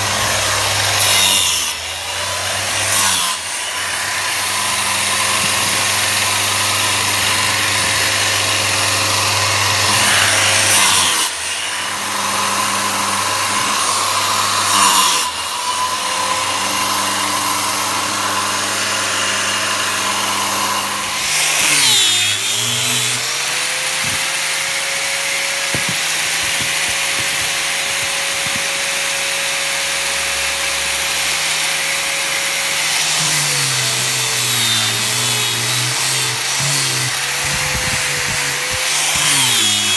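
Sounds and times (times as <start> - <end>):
angle grinder sanding wood: 0.0 - 39.9
circular saw cutting wood: 0.0 - 39.9.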